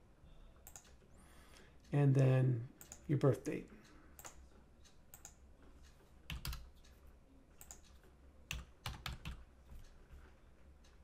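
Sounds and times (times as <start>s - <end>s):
faint keyboard typing: 0.6s - 2.0s, 2.8s - 11.0s.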